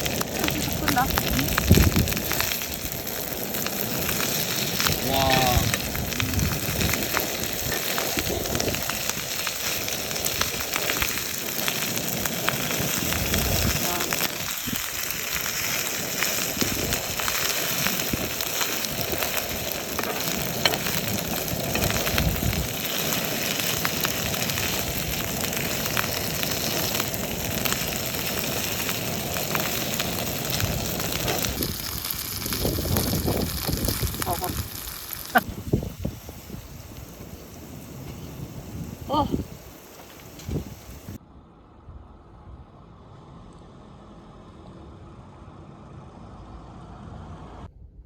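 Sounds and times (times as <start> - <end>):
food sizzling in a pan: 0.0 - 41.2.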